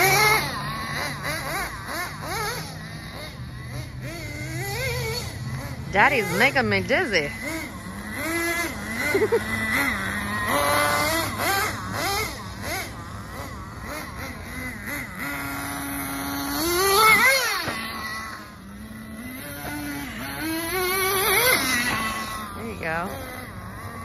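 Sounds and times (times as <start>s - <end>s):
small engine revving: 0.0s - 24.0s.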